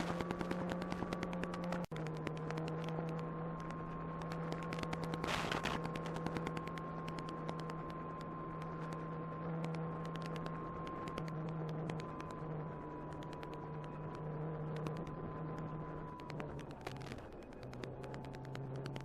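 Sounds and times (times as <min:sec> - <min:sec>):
crackling static clicks: 0:00.0 - 0:19.0.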